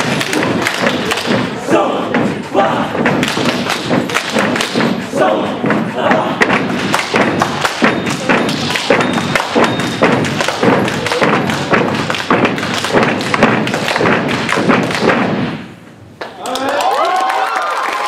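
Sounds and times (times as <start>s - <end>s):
hand claps and body slaps: 0.0s - 1.6s, 3.0s - 5.1s, 5.7s - 17.0s
feet stomping on stage floor: 0.0s - 15.8s.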